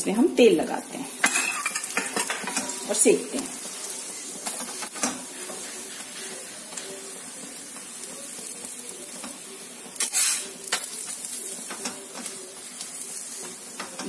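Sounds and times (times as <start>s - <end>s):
oil sizzling in a pan: 0.0s - 14.0s.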